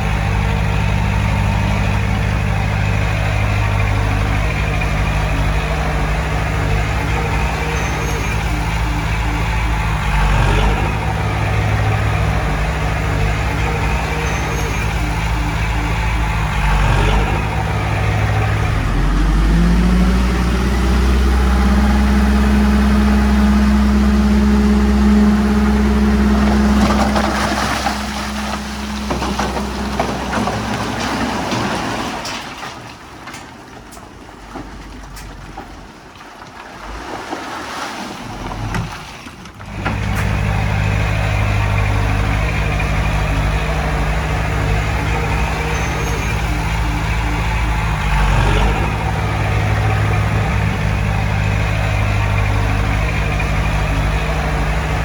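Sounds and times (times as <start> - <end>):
heavy diesel engine: 0.0 - 36.2, 38.2 - 55.0.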